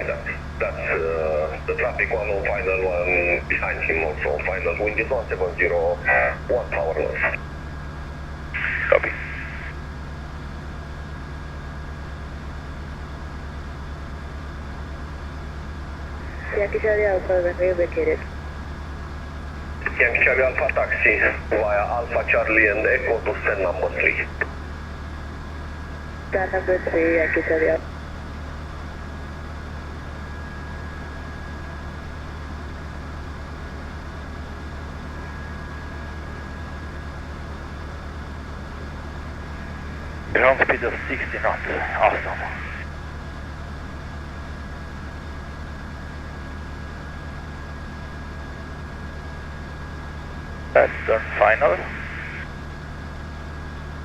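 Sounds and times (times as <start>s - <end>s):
light aircraft engine droning: 0.0s - 54.0s
thin steady whine: 0.0s - 54.0s.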